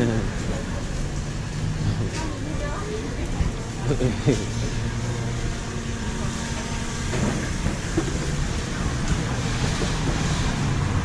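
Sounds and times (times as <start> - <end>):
traffic noise: 0.0 - 11.0
vehicle engine running: 0.0 - 11.0.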